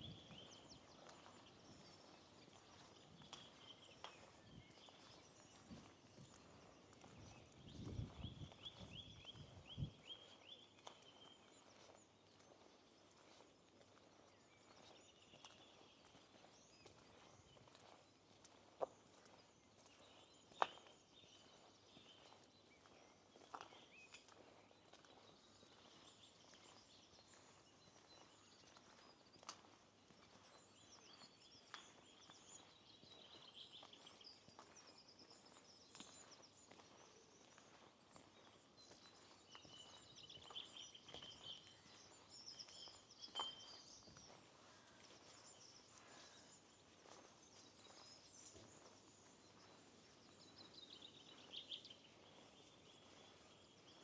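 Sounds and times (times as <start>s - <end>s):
faint songbirds chirping: 0.0s - 54.0s.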